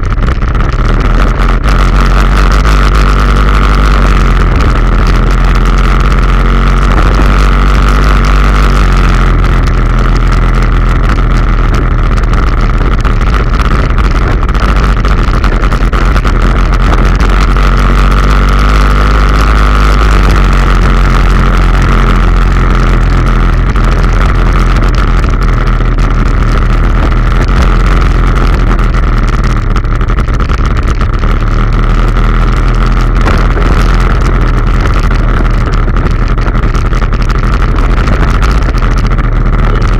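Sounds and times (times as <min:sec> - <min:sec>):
high whine: 0:00.0 - 0:39.9
motorcycle engine running: 0:00.0 - 0:39.9.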